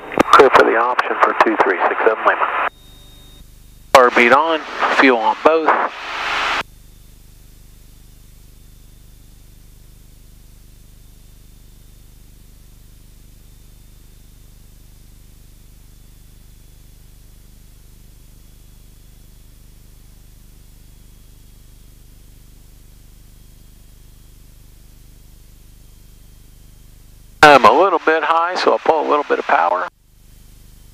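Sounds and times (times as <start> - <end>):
faint high whine: 0.0 - 30.9.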